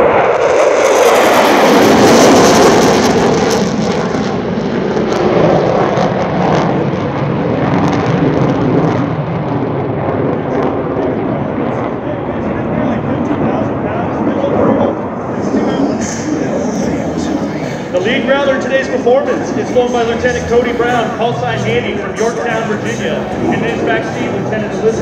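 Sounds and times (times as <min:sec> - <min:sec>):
jets passing overhead: 0:00.0 - 0:25.0.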